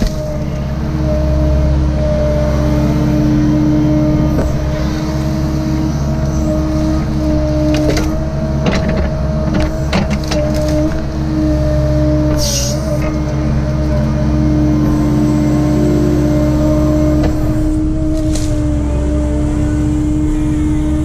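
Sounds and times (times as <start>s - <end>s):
excavator engine and hydraulics whine: 0.0s - 21.0s.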